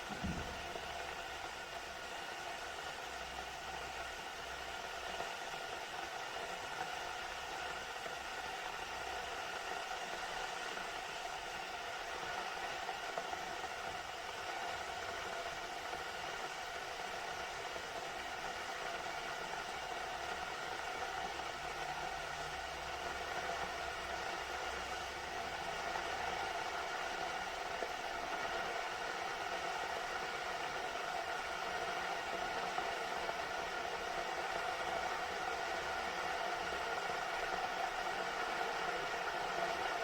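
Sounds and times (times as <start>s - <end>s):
electric kettle heating water: 0.0s - 40.0s.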